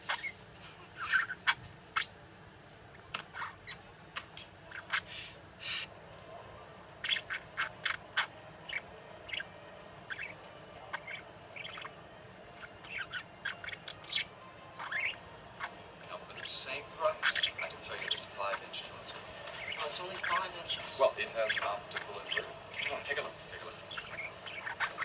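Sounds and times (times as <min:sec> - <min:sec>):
budgerigar warbling: 0:00.0 - 0:00.4, 0:01.0 - 0:02.1, 0:03.0 - 0:03.8, 0:04.6 - 0:05.9, 0:07.0 - 0:25.0.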